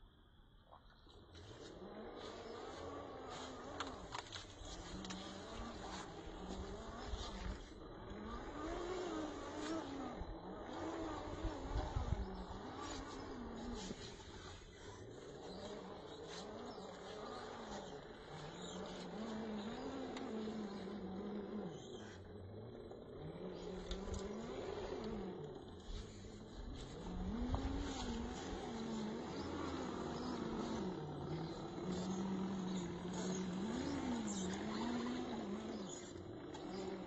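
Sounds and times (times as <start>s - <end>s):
electric motor whining: 1.3s - 37.0s.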